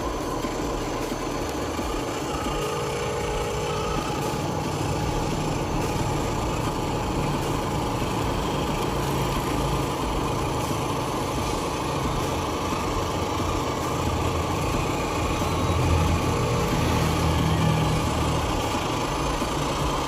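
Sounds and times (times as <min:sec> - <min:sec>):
toy vehicle electric motor whining: 0:00.0 - 0:20.0.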